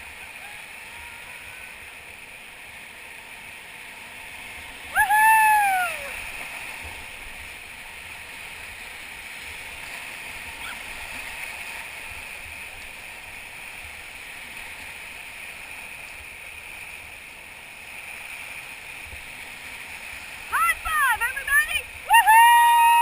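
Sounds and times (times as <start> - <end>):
whitewater rushing and gurgling: 0.0 - 23.0.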